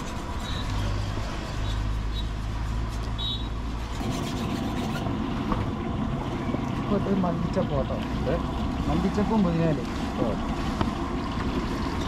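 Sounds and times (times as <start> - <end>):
low engine rumble: 0.0 - 12.0
outdoor street noise: 0.0 - 12.0.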